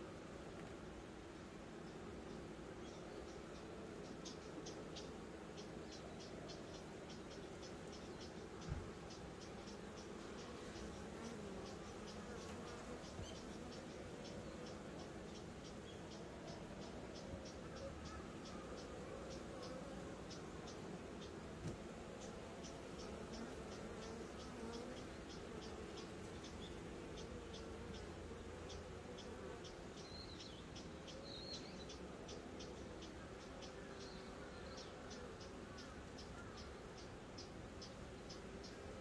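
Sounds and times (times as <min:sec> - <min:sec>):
honeybees buzzing: 0:00.0 - 0:39.0.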